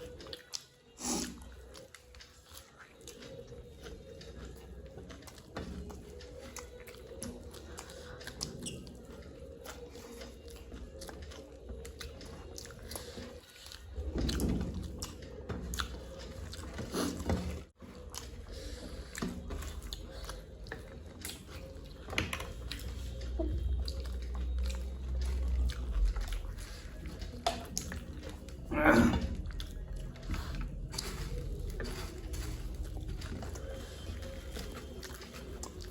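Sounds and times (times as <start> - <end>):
chewing and crunching food: 0.0 - 35.9.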